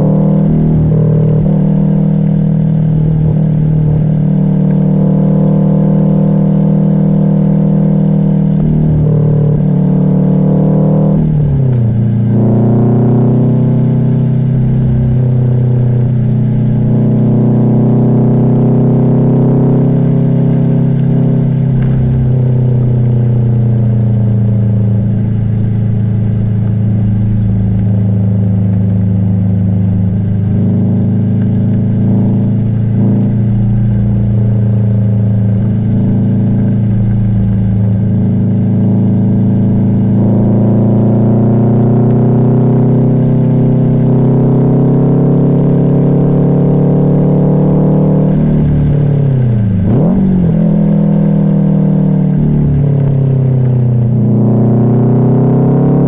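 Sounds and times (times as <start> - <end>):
car engine and exhaust rumbling: 0.0 - 56.0.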